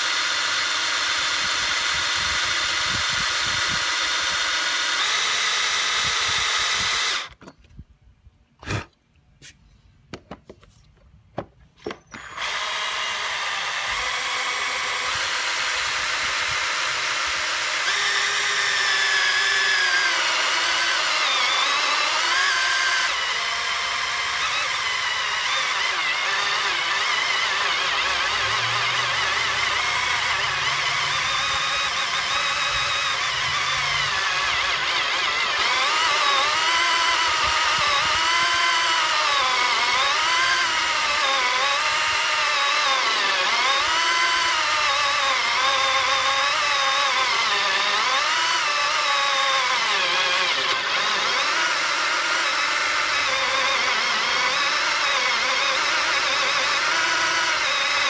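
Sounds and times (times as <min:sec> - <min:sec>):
power drill cutting wood: 0:00.0 - 0:07.5, 0:11.8 - 0:58.0.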